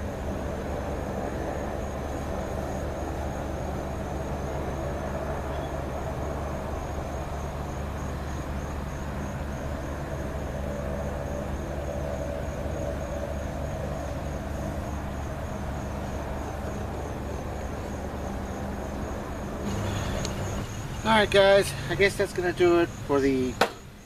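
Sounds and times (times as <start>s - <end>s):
fan air rushing with motor hum: 0.0s - 24.0s.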